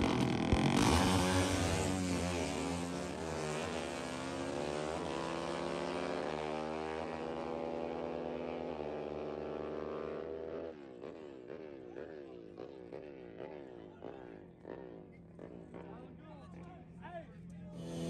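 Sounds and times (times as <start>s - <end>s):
motorcycles accelerating hard: 0.0s - 16.7s, 17.5s - 18.0s.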